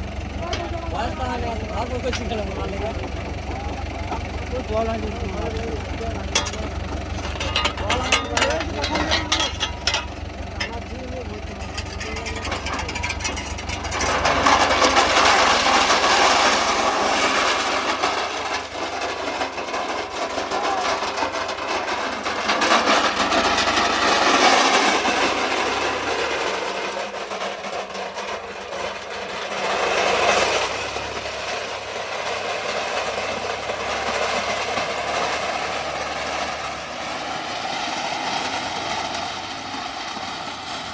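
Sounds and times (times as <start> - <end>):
diesel engine of heavy machinery: 0.0 - 40.9.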